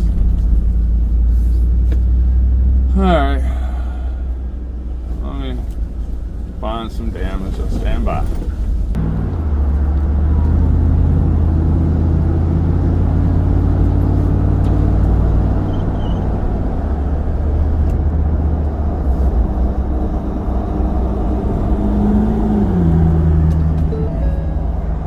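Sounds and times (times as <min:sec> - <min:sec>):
road noise: 0:00.0 - 0:25.0
truck engine hum: 0:00.0 - 0:25.0.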